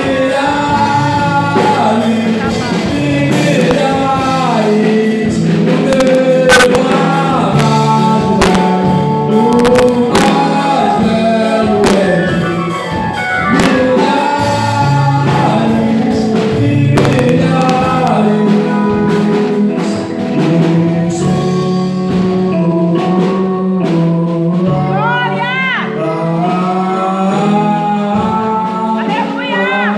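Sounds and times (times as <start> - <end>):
sharp drum hits: 0.0 - 24.8
singing with instrumental accompaniment: 0.0 - 29.9.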